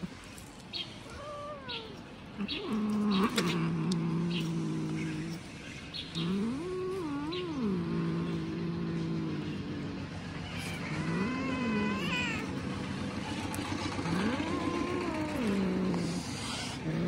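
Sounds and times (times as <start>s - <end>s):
cat growling and yowling: 1.1s - 5.4s, 6.2s - 17.0s.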